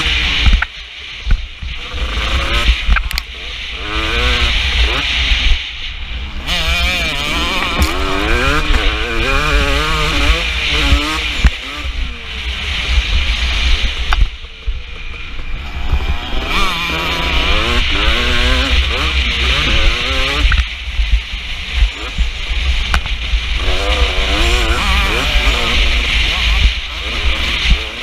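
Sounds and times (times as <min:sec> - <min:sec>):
two-stroke motocross engine revving: 0:00.0 - 0:28.0.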